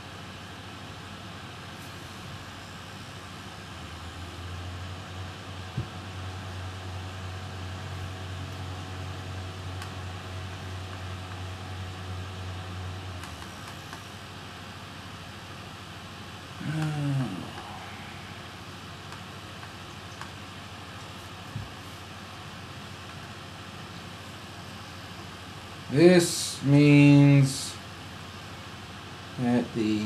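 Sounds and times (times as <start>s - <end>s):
fan humming: 0.0s - 30.0s.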